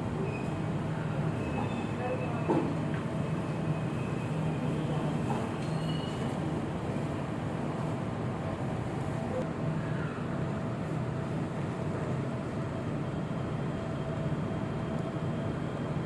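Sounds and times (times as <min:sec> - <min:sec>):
metro carriage interior hum: 0:00.0 - 0:16.0.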